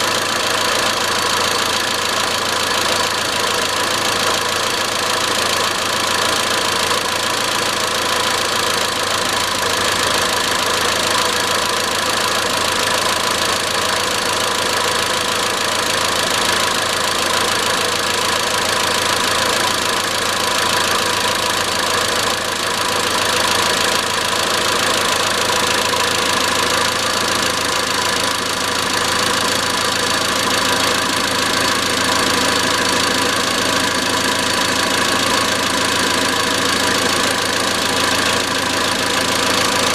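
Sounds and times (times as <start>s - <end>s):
car engine idling with metallic knock: 0.0s - 39.9s.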